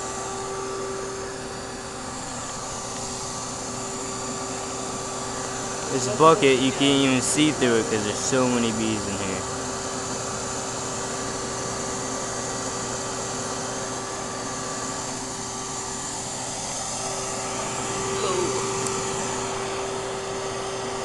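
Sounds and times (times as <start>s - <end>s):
vacuum motor drone: 0.0s - 21.0s.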